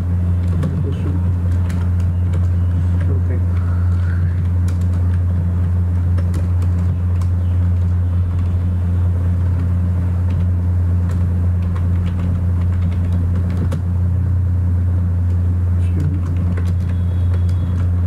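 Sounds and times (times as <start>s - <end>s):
computer keyboard typing: 0.0s - 13.9s, 16.0s - 18.0s
loud steady low hum: 0.0s - 18.0s.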